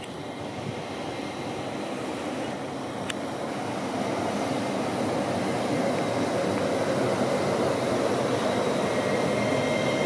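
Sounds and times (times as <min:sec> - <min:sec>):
faint high whine: 0:00.0 - 0:10.0
train wheels rumbling on rail: 0:00.0 - 0:10.0.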